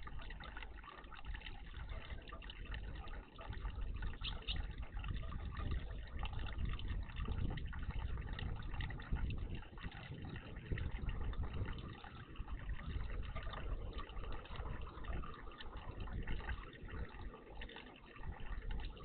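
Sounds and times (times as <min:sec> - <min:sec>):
water gurgling in bird bath: 0:00.0 - 0:19.0.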